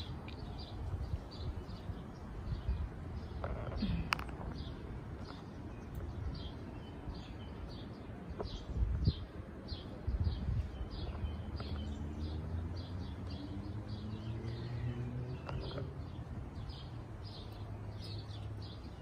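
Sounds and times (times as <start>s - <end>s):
small songbird chirping: 0.0s - 19.0s.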